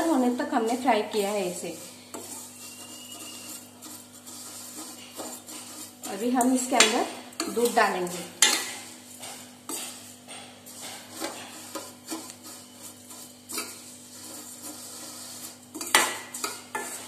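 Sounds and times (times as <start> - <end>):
metal spoon scraping a pan: 0.0 - 17.0.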